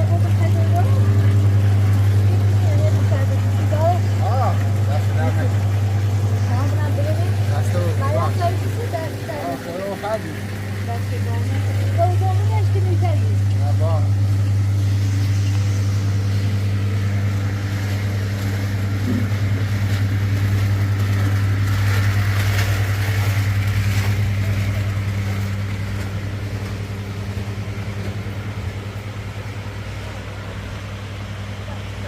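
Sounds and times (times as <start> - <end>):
engine running low hum: 0.0 - 32.0.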